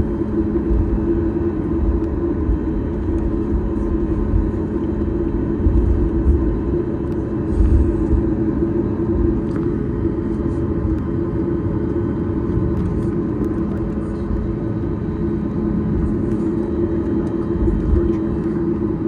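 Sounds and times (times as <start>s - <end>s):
jet engine cabin drone: 0.0s - 19.0s.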